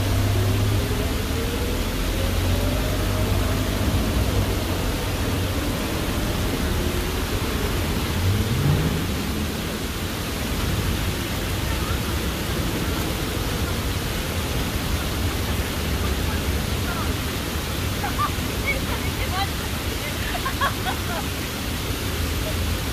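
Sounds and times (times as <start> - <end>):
water cascading down fountain: 0.0 - 22.9.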